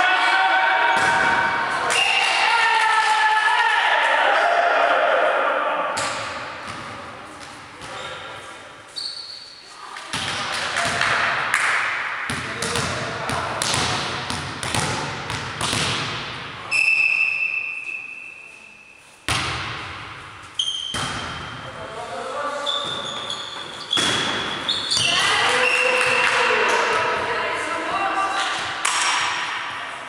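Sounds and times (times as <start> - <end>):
players' voices echoing: 0.0 - 9.0, 9.6 - 18.6, 20.9 - 30.0.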